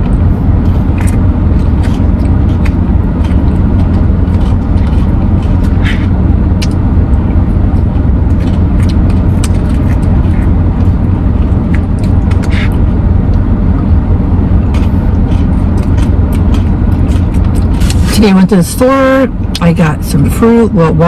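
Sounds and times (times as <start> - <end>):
low vehicle rumble: 0.0 - 21.0.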